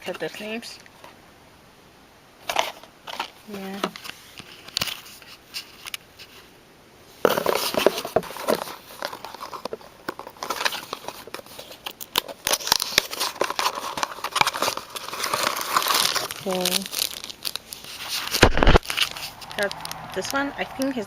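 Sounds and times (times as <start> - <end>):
plastic packaging crinkling and tearing: 2.5 - 6.4, 7.2 - 21.0.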